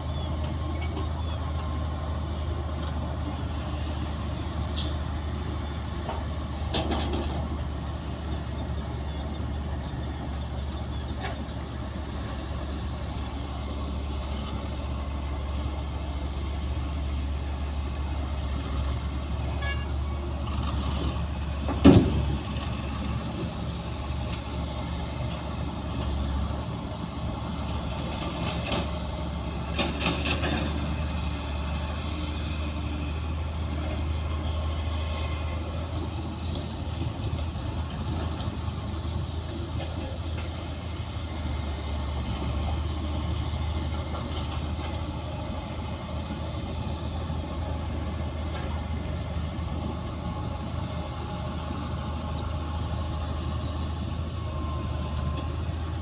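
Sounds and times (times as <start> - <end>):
diesel earthmoving machinery: 0.0 - 56.0.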